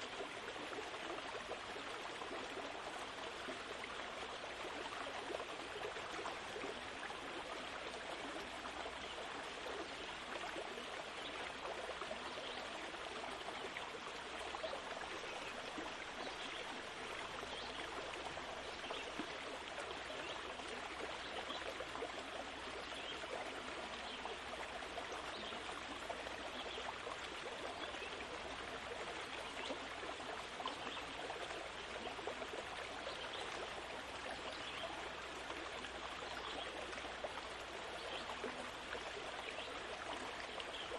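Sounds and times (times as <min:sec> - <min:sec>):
rushing trickling water: 0:00.0 - 0:40.9.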